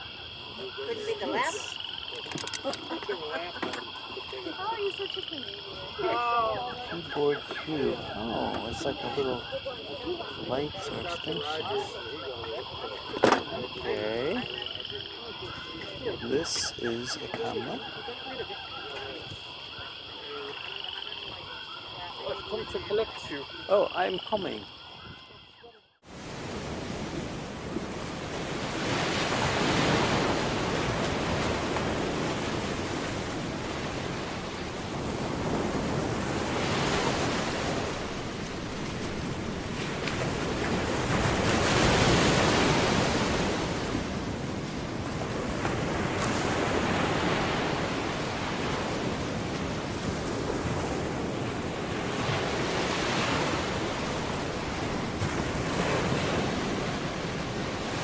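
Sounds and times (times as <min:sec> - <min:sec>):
ocean waves breaking: 0:00.0 - 0:24.8, 0:26.0 - 0:58.0.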